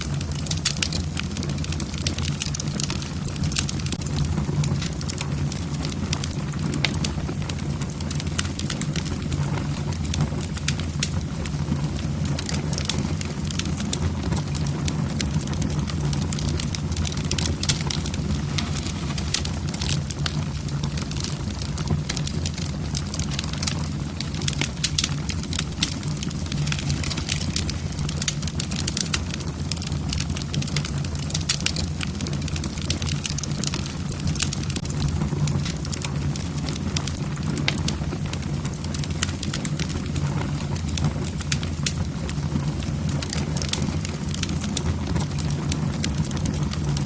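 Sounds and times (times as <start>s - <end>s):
low steady rumble: 0.0s - 47.0s
wood fire crackling: 0.0s - 47.0s.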